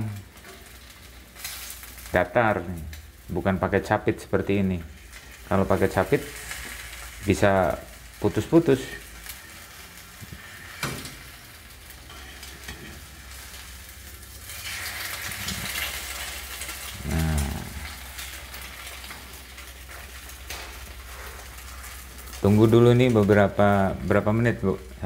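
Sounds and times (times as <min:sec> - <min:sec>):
egg sizzling in hot oil: 0:00.0 - 0:25.0.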